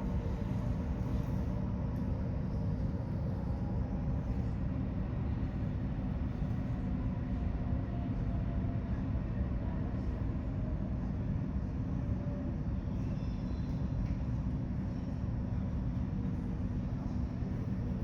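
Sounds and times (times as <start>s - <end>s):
faint steady hum tones: 0.0s - 18.0s
low mechanical rumble: 0.0s - 18.0s.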